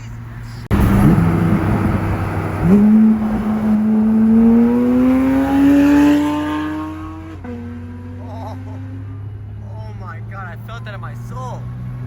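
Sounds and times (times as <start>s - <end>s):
sports car engine accelerating: 0.7s - 12.0s.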